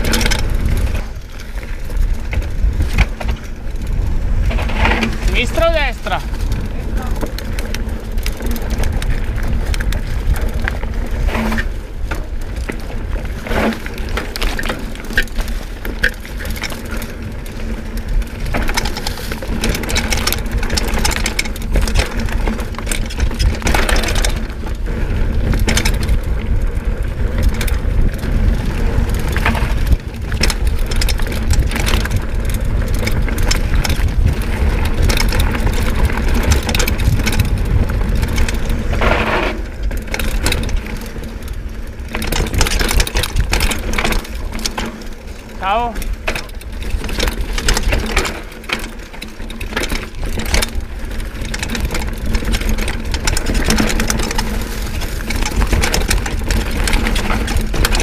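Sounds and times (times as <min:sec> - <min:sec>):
bike rattling: 0:00.0 - 0:58.0
tyres crunching on gravel: 0:00.0 - 0:58.0
wind rumble on microphone: 0:00.0 - 0:58.0.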